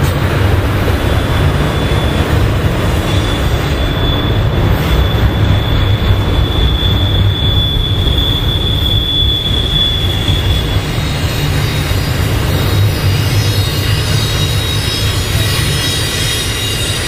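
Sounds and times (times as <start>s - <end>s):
freight train rumbling past: 0.0s - 17.0s
high wheel squeal: 0.0s - 17.0s.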